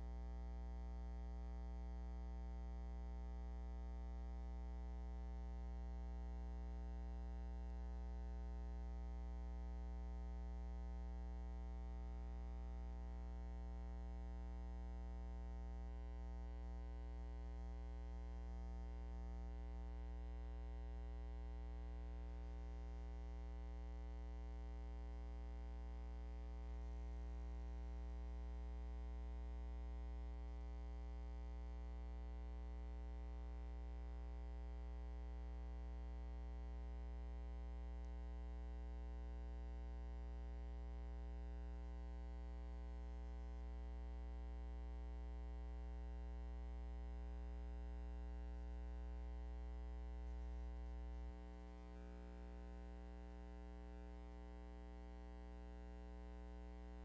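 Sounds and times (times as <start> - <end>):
buzzy electrical hum: 0.0 - 57.0.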